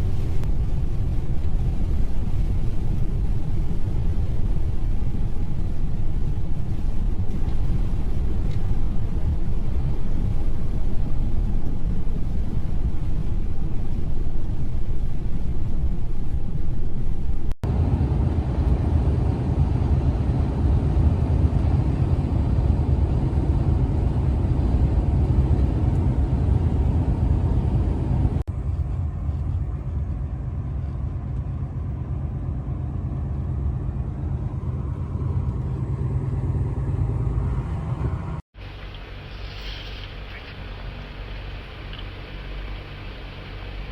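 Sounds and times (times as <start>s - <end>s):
truck engine rumbling: 0.0s - 43.9s.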